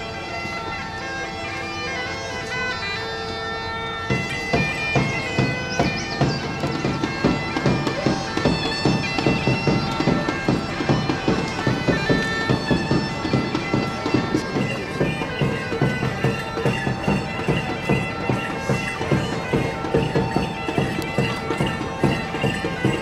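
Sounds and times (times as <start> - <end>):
bagpipes playing folk tune: 0.0 - 23.0
fast percussive beat: 4.1 - 23.0.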